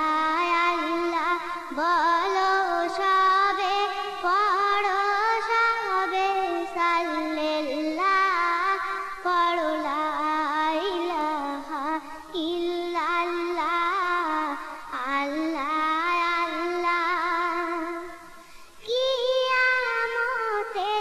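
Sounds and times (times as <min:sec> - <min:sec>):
woman singing into a microphone: 0:00.0 - 0:21.0.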